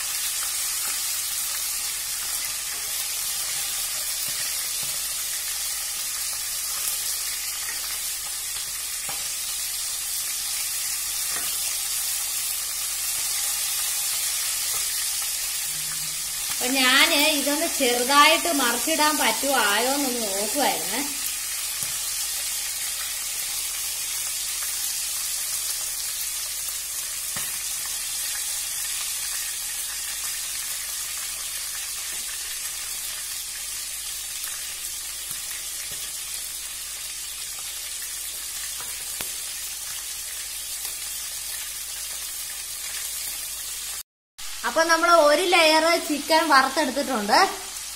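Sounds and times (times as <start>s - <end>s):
chicken sizzling in oil: 0.0s - 47.9s.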